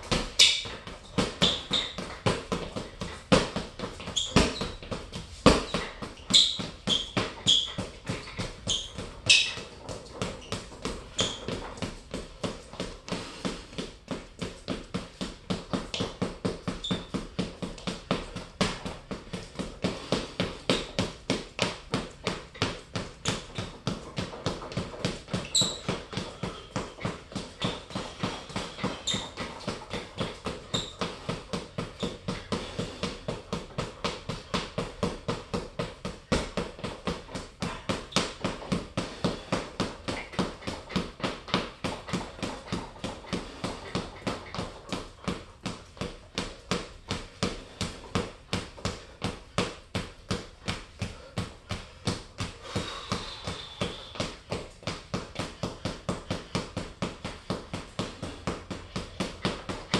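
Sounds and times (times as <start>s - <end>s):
punches hitting heavy bag: 0.0s - 59.9s.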